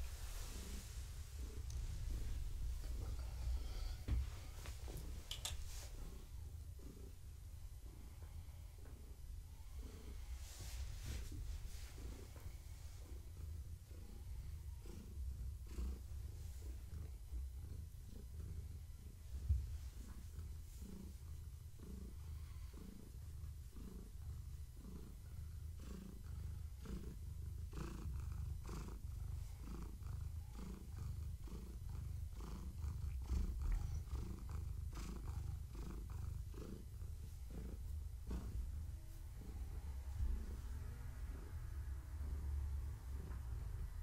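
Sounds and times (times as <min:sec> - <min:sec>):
cat purring: 0:00.0 - 0:44.0.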